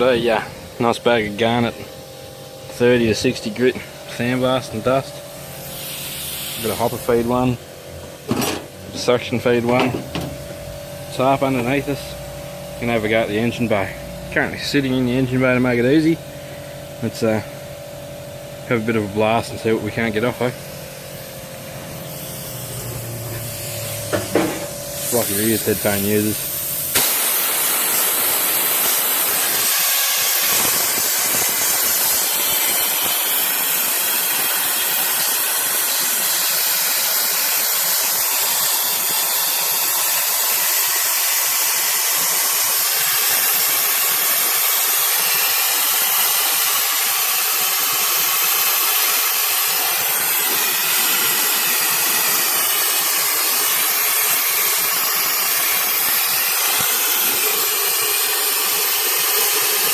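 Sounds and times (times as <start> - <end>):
sandblaster rushing hiss: 0.0 - 12.2, 18.9 - 59.9.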